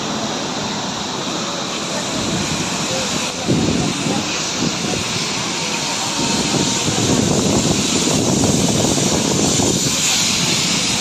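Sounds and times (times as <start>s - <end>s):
rushing air: 0.0s - 11.0s
train wheels rumbling on rails: 0.0s - 11.0s.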